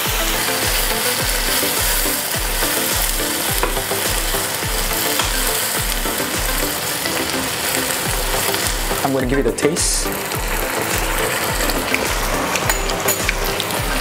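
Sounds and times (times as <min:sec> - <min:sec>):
background music with steady beat: 0:00.0 - 0:14.0
sauce sizzling in frying pan: 0:00.0 - 0:14.0.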